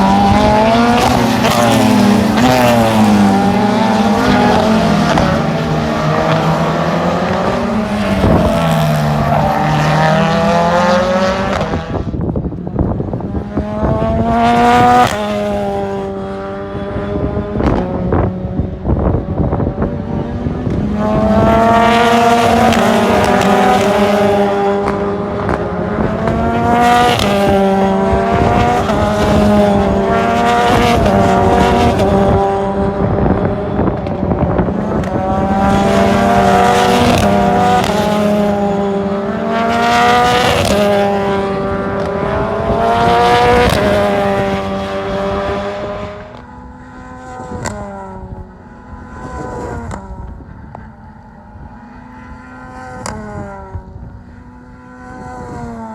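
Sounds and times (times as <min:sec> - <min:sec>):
racing cars at full throttle: 0:00.0 - 0:55.9.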